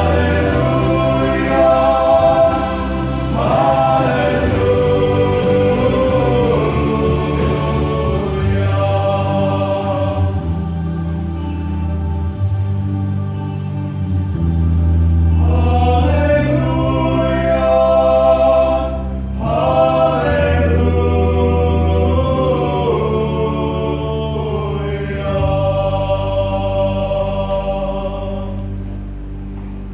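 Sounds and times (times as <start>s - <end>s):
male vocal ensemble singing chords: 0.0s - 12.0s, 15.1s - 29.9s.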